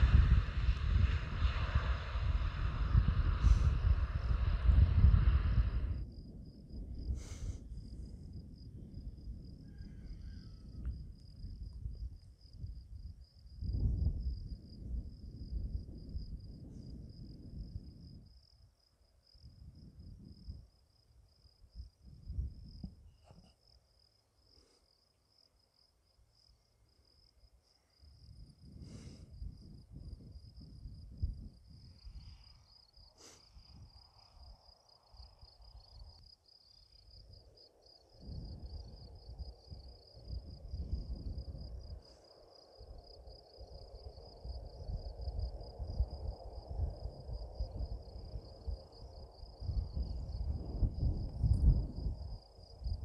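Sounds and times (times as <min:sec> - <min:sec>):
wind gusts on microphone: 0:00.0 - 0:18.7, 0:19.3 - 0:20.8, 0:21.6 - 0:23.5, 0:28.0 - 0:53.0
insects chirping: 0:00.0 - 0:53.0.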